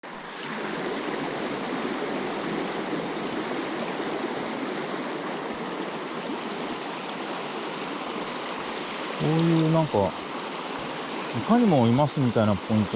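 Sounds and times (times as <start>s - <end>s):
water rushing over rocks: 0.0s - 12.9s.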